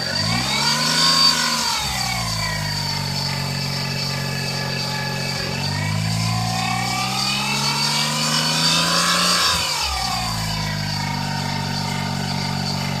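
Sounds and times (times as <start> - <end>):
car engine revving from idle: 0.0 - 13.0
whine rising and falling: 0.0 - 13.0.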